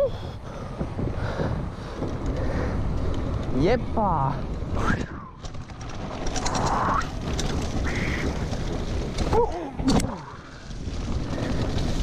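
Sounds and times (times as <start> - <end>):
bike rattling: 0.0 - 12.0
wind and tyre noise: 0.0 - 12.0.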